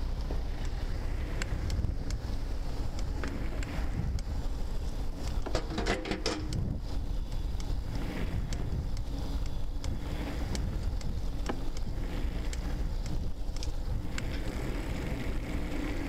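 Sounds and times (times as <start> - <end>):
bicycle tyre noise on wet path: 0.0 - 16.0
wind rumbling on microphone: 0.0 - 16.0
small clicks and rattles: 0.1 - 16.0.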